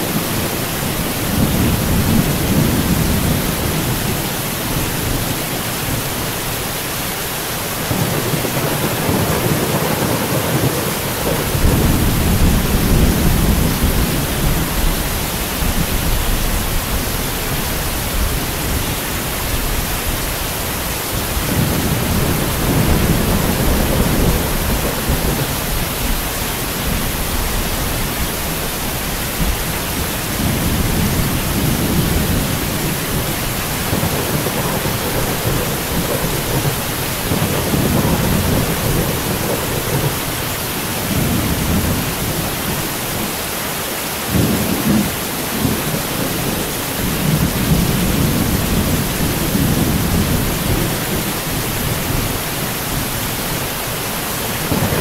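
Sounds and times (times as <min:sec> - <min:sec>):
low thunder rumbling: 0:00.0 - 0:06.4, 0:07.7 - 0:43.3, 0:44.3 - 0:55.0
rain falling steadily: 0:00.0 - 0:55.0.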